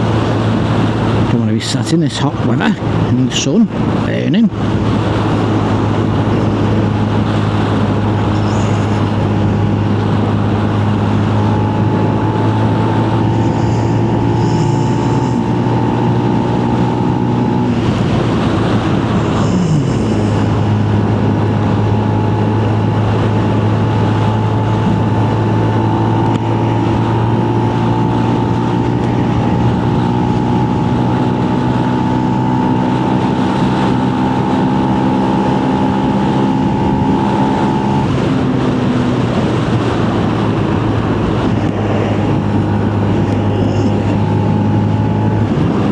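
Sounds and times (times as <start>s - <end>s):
motorcycle engine running: 0.0s - 1.4s, 2.7s - 45.9s.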